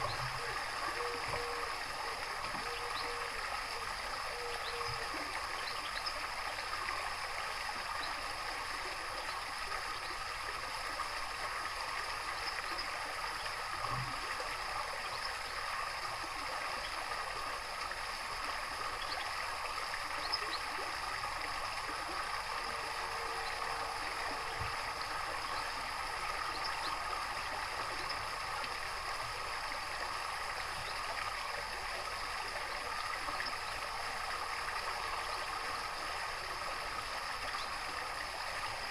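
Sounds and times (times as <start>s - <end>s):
running gurgling water: 0.0s - 38.9s.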